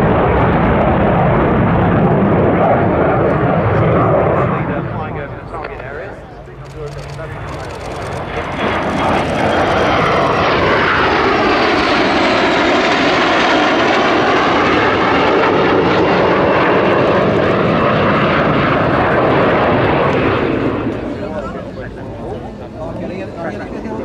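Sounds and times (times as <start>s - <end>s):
fighter jets flying by: 0.0s - 24.0s.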